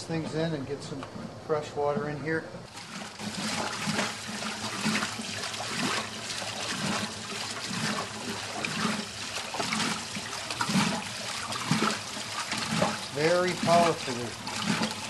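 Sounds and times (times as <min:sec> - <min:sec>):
water sloshing in washing machine: 0:01.8 - 0:15.0.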